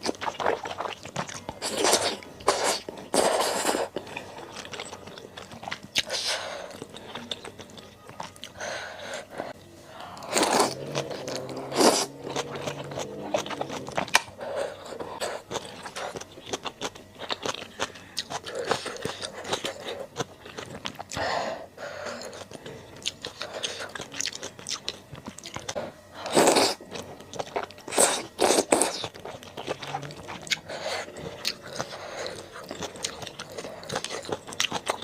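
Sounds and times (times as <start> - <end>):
chewing and crunching food: 0.0 - 35.0.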